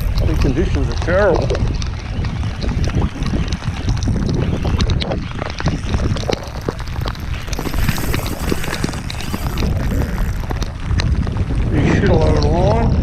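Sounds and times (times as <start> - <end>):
rain tapping: 0.0 - 13.0
wind buffeting microphone: 0.0 - 13.0.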